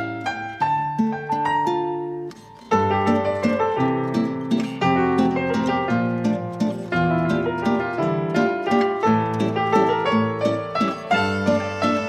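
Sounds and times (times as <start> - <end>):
held chords: 0.0 - 12.0
plucked string notes: 0.0 - 12.0.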